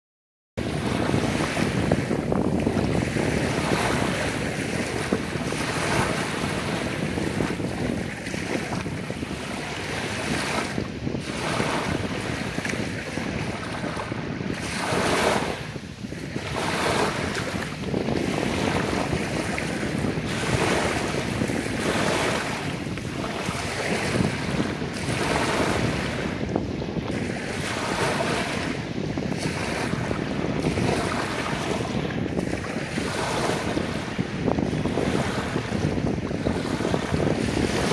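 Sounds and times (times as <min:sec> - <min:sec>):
small waves lapping on sandy shore: 0:00.6 - 0:37.9.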